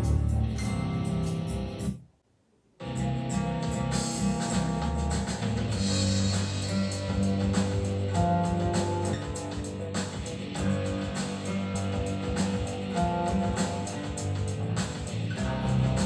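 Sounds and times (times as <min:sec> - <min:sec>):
song with guitar and drums: 0:02.8 - 0:16.0.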